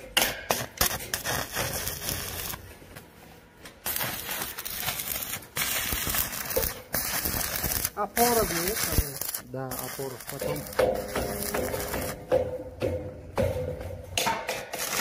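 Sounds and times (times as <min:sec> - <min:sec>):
welding arc crackling and sizzling: 0:00.1 - 0:12.5, 0:14.2 - 0:15.0.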